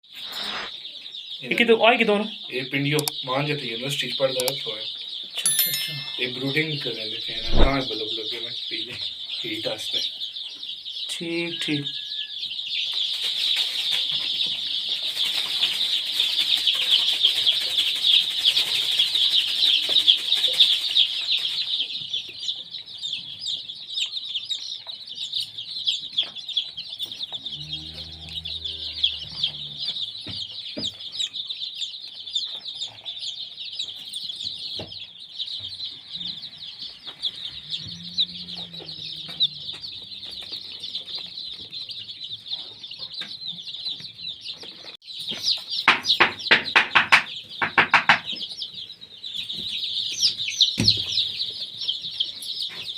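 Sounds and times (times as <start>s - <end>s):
chicks peeping: 0.0s - 52.9s
chicken clucking: 0.2s - 52.9s.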